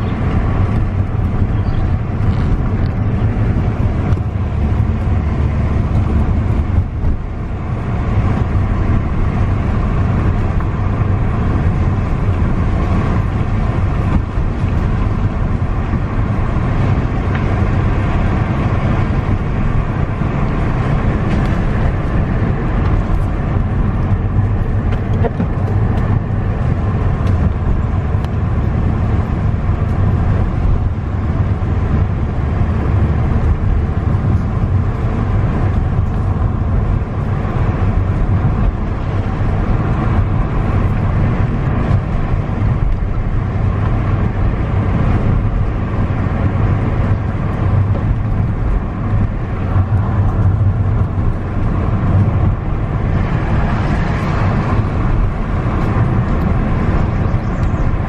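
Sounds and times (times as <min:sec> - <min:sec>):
car engine rumble: 0:00.0 - 0:58.0
tyres on wet road: 0:00.0 - 0:58.0.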